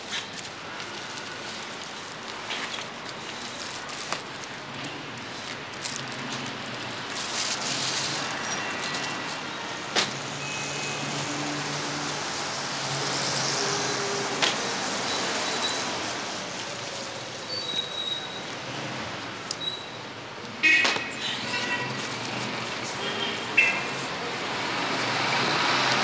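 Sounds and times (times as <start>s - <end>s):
traffic hum: 0.0s - 26.0s.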